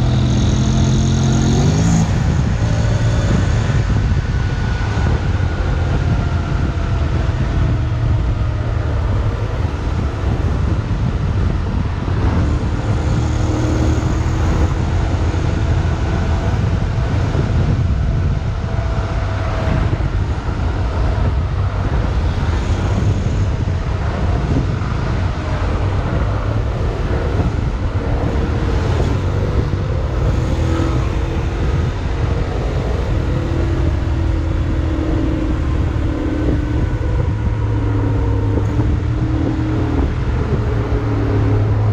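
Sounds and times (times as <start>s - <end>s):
motorcycle engine rumble: 0.0s - 41.9s
wind rushing: 0.0s - 41.9s.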